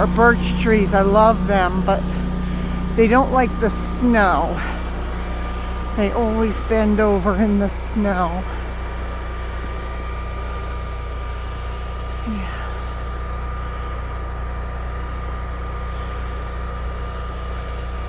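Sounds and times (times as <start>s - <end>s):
faint steady whine: 0.0s - 17.8s
generator engine droning: 0.0s - 18.0s.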